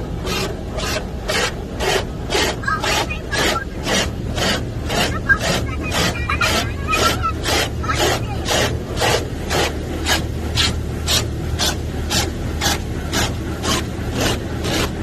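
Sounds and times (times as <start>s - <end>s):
low hum of wash machinery: 0.0s - 15.0s
water spraying onto car: 0.0s - 15.0s.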